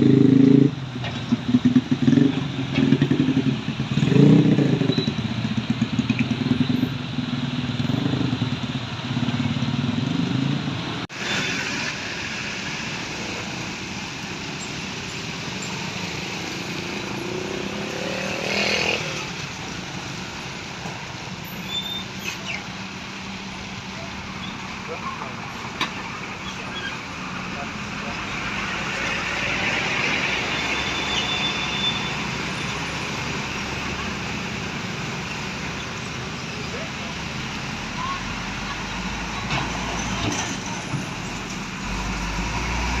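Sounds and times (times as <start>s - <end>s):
road noise hiss: 0.0s - 43.0s.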